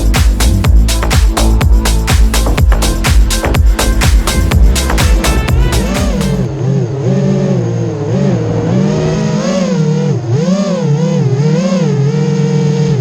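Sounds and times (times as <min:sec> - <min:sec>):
quadcopter motors buzzing: 0:00.0 - 0:13.0.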